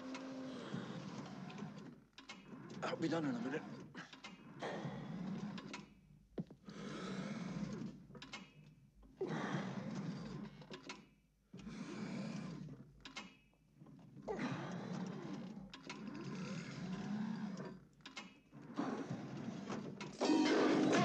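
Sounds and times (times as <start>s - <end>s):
weight stack sliding on rods: 0.0s - 8.6s, 9.3s - 21.0s.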